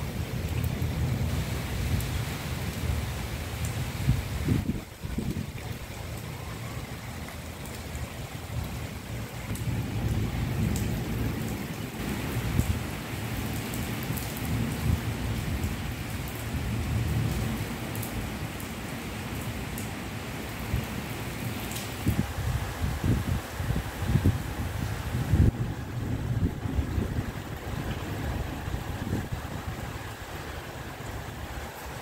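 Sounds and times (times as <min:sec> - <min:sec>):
heavy rain on concrete: 0:00.0 - 0:32.0.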